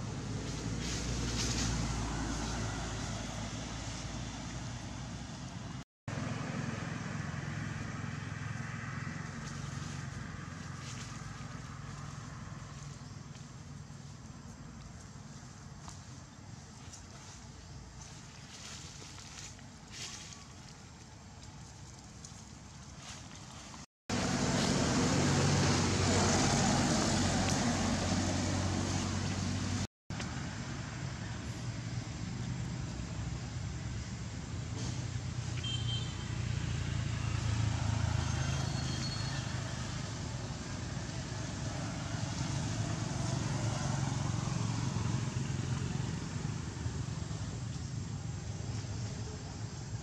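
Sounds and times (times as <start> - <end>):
vehicle engine rumbling: 0.0 - 50.0.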